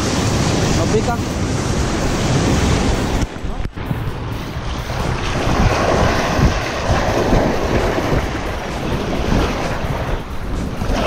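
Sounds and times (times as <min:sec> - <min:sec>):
waves breaking on rocks: 0:00.0 - 0:11.0
wind buffeting microphone: 0:00.0 - 0:11.0.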